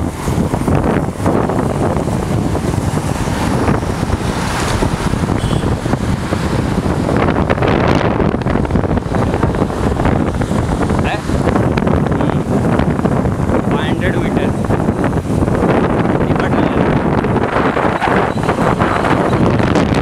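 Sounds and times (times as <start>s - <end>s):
motorcycle engine: 0.0s - 20.0s
road noise: 0.0s - 20.0s
wind buffeting microphone: 0.0s - 20.0s.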